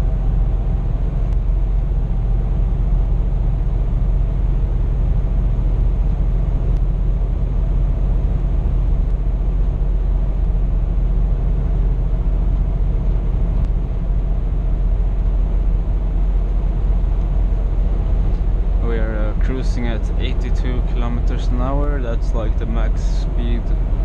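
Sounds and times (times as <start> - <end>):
truck engine and road drone: 0.0 - 24.0.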